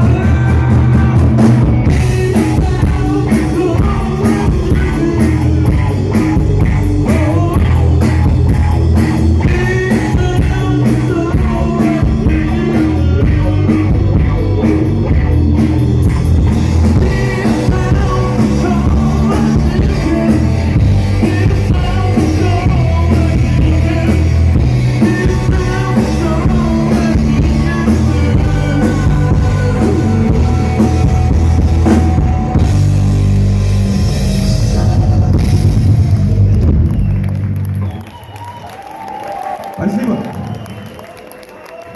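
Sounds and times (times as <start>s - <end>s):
rock song with singer: 0.0s - 41.1s.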